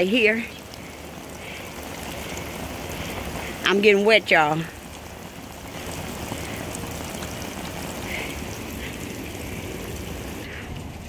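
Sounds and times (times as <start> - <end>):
water spraying and pattering: 0.0 - 11.0.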